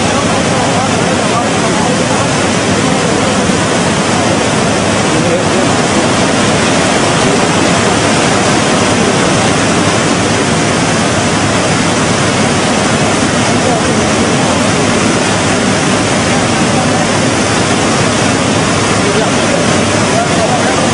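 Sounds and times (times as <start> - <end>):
rushing floodwater: 0.0 - 20.9.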